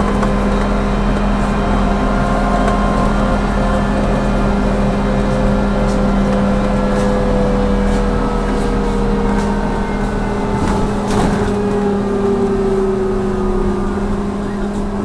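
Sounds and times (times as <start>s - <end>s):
electric motor whine: 0.0s - 15.0s
electrical hum: 0.0s - 15.0s.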